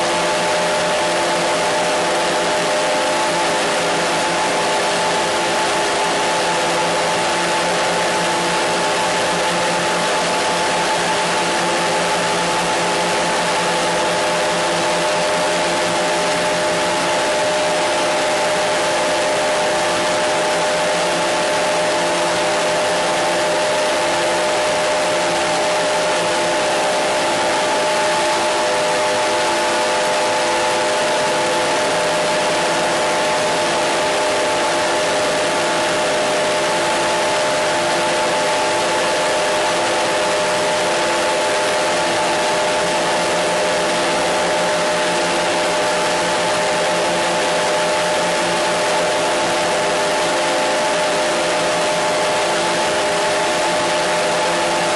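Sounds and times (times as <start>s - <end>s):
steady humming tones: 0.0s - 54.9s.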